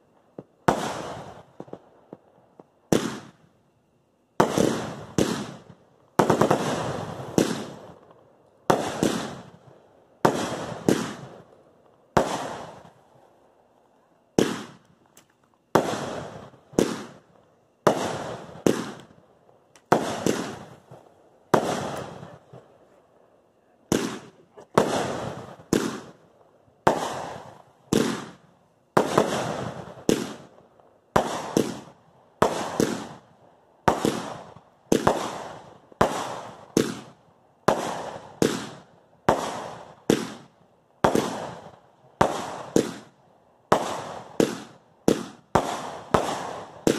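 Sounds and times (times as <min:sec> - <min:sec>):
fireworks bangs: 0:00.0 - 0:03.5, 0:04.4 - 0:13.0, 0:14.3 - 0:15.0, 0:15.7 - 0:19.2, 0:19.8 - 0:23.1, 0:23.8 - 0:46.9.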